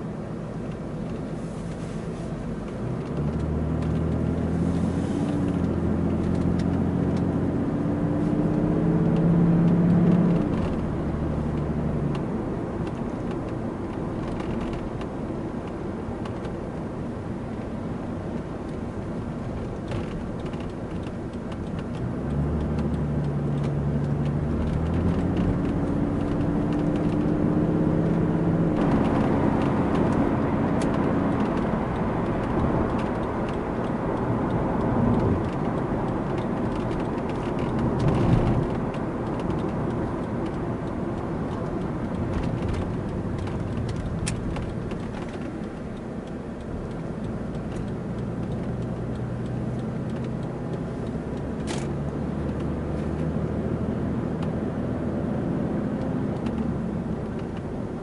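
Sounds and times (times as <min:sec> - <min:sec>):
diesel engine accelerating: 0:00.0 - 0:17.3, 0:18.0 - 0:58.0
road and tyre noise: 0:00.0 - 0:58.0.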